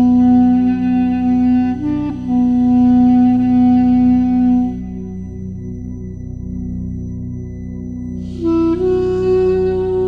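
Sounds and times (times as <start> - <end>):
low music drone: 0.0 - 10.0.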